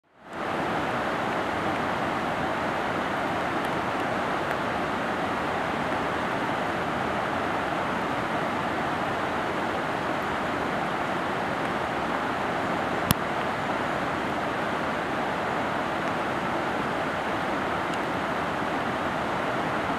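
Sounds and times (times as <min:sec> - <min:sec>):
river rushing over boulders: 0:00.0 - 0:19.9.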